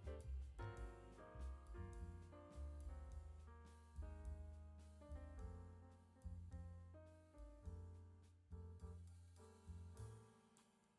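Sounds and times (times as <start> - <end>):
piano-led instrumental music: 0.0 - 10.8.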